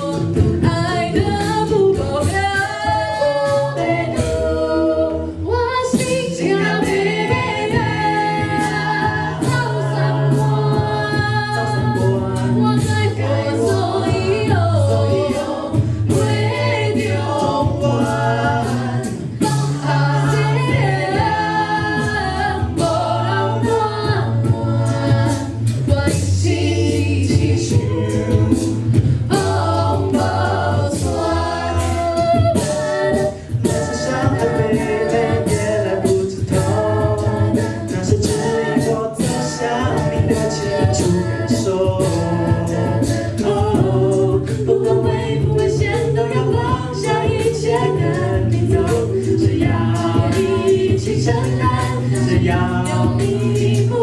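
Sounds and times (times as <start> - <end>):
sung bass line: 0.0 - 54.0
vocal group singing in harmony: 0.0 - 54.0.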